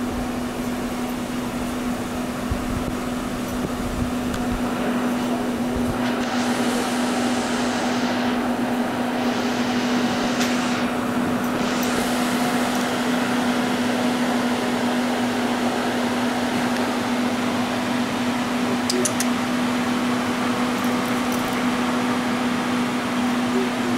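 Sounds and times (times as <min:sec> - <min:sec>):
fan whirring with low hum: 0:00.0 - 0:23.9.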